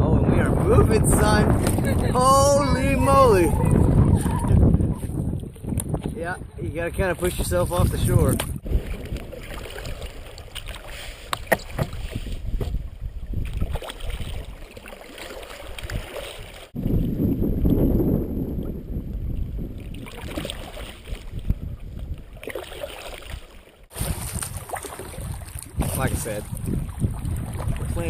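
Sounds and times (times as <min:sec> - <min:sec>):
wind rumbling on microphone: 0:00.0 - 0:14.7, 0:15.6 - 0:22.5, 0:23.3 - 0:28.0
paddle splashing through water: 0:01.2 - 0:06.2, 0:07.1 - 0:17.7, 0:19.4 - 0:28.0.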